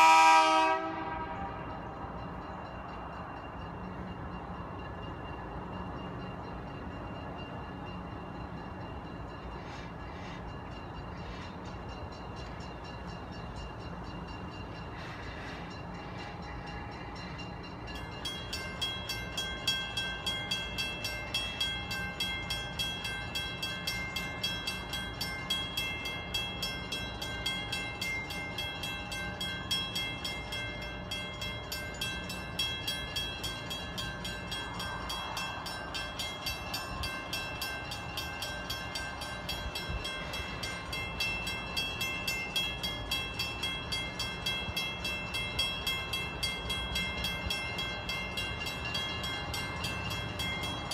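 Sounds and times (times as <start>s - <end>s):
railroad crossing bell ringing: 0.0s - 50.9s.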